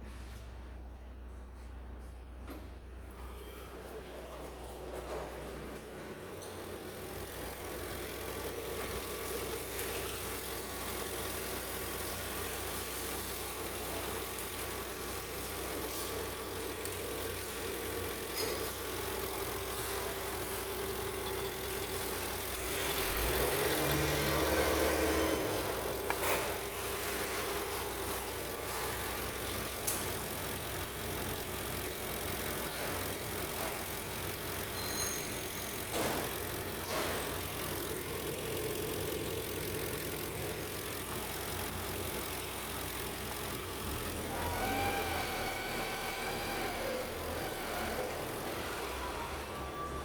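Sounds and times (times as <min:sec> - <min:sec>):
car engine idling: 0:02.9 - 0:50.0.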